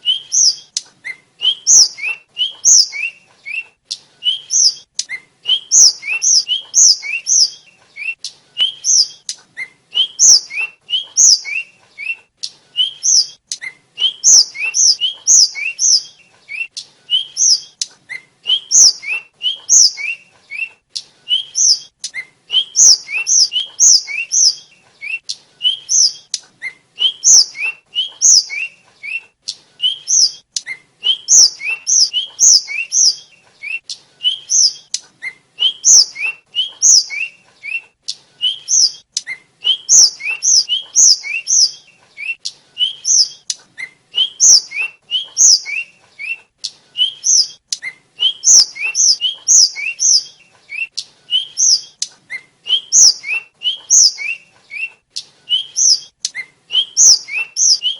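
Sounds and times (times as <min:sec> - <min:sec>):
flycatcher singing: 0:00.0 - 0:35.0, 0:35.6 - 0:37.8, 0:38.4 - 0:43.6, 0:44.2 - 0:46.4, 0:47.0 - 0:54.9, 0:55.5 - 0:57.9.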